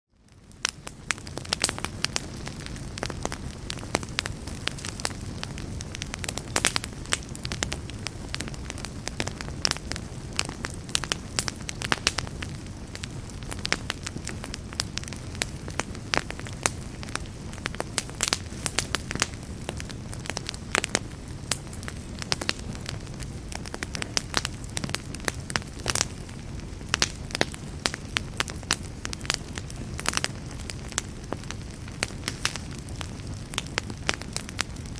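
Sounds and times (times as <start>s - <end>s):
fire crackling in a fireplace: 0.1s - 34.9s.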